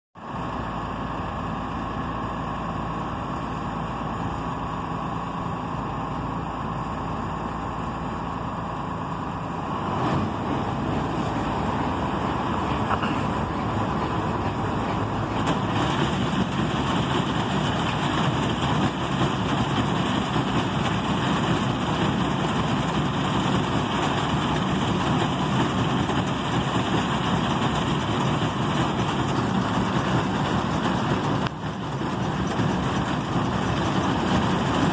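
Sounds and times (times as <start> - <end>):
combine harvester diesel engine running: 0.2 - 34.9.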